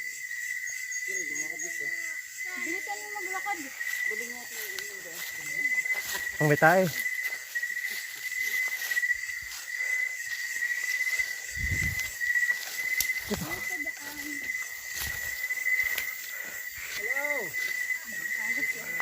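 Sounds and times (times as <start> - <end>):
crickets trilling: 0.0 - 19.0
footsteps on trail: 2.5 - 19.0.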